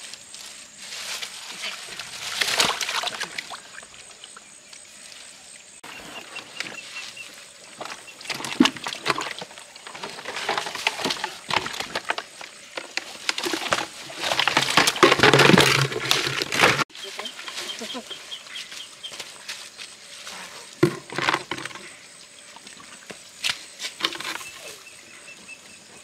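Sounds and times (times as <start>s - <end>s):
water splashing and sloshing: 1.0s - 25.8s.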